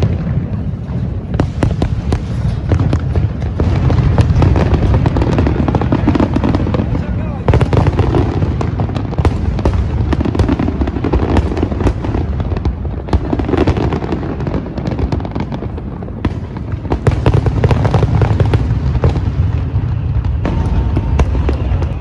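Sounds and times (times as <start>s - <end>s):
deep booming rumble: 0.0s - 22.0s
fireworks cracking and popping: 0.0s - 22.0s.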